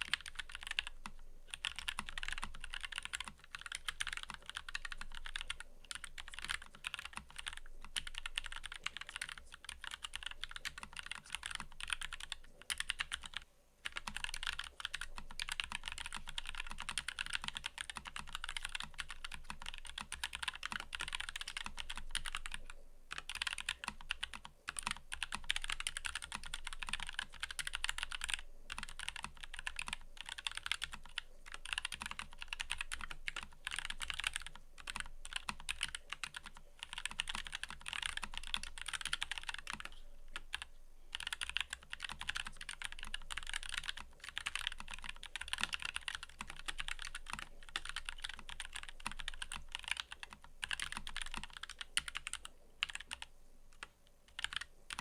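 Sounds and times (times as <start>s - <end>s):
typing on mechanical keyboard: 0.0s - 55.0s.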